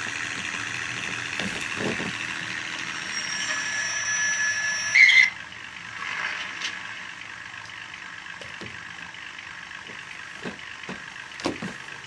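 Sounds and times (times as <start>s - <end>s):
locomotive idling engine sound: 0.0s - 12.0s.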